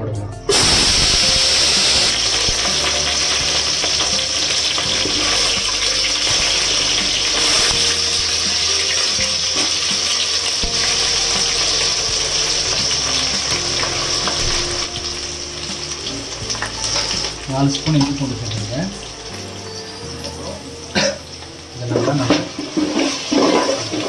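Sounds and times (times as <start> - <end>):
food sizzling in hot oil: 0.5 - 24.0.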